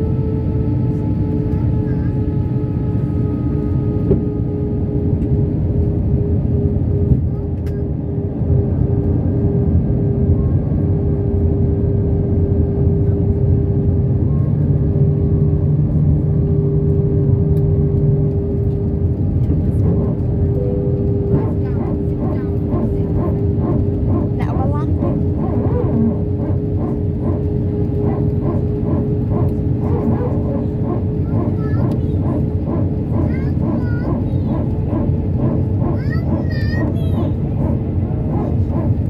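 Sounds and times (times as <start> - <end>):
airplane cabin engine rumble: 0.0 - 39.0
steady droning hum: 0.0 - 39.0.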